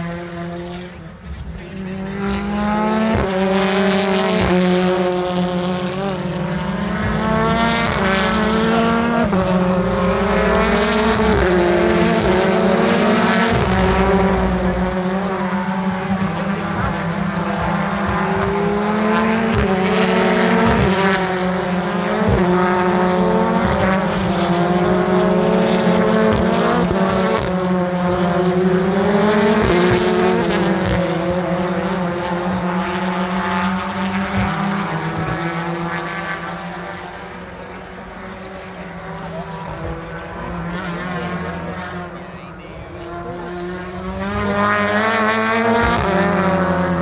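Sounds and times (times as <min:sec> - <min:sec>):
racing car engines passing: 0:00.0 - 0:47.0.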